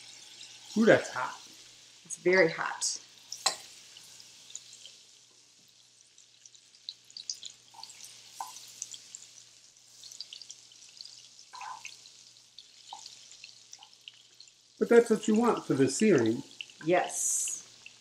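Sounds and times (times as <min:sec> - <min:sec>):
butter sizzling in oil: 0:00.0 - 0:18.0.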